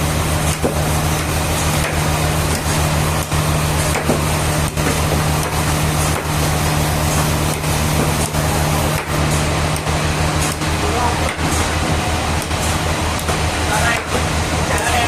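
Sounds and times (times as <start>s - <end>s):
sawmill machinery humming: 0.0s - 15.0s.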